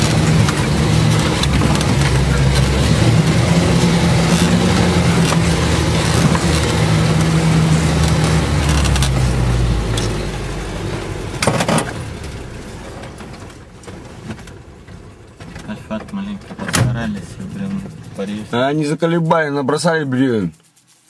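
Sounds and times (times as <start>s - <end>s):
cab rattling and jolting: 0.0s - 18.8s
vehicle engine running: 0.0s - 18.9s.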